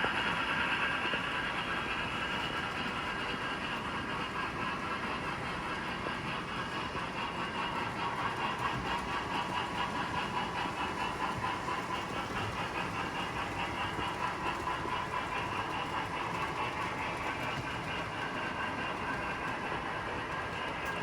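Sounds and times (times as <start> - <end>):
model train humming and clicking: 0.0 - 21.0.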